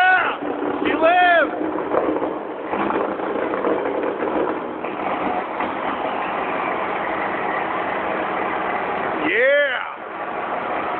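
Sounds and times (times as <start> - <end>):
diesel engine idling roughly: 0.0 - 10.9.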